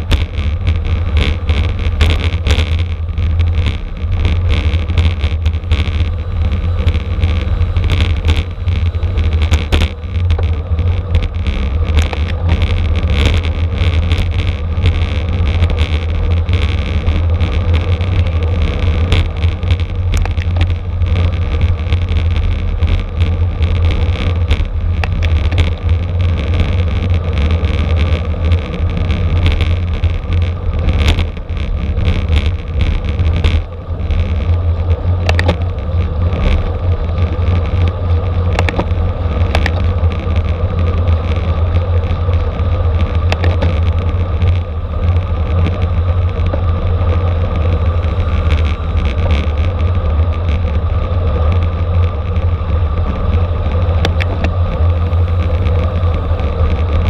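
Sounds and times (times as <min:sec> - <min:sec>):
small clicks and rattles: 0:00.0 - 0:57.0
wind rumble on microphone: 0:00.0 - 0:57.0.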